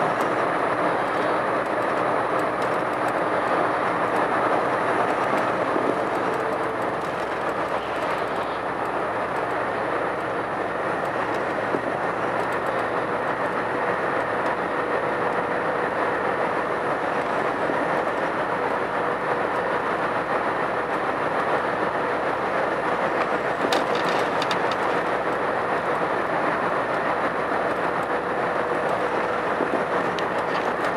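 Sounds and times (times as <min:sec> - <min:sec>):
truck engine and tyre noise: 0:00.0 - 0:30.9.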